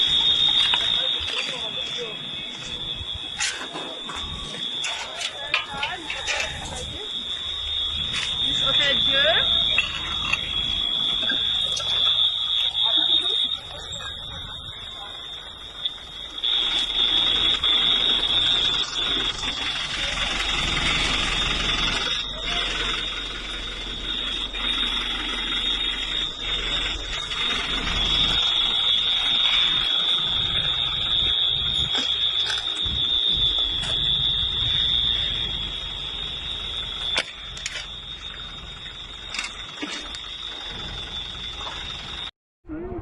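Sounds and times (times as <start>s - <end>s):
high-pitched alarm tone: 0.0s - 43.0s.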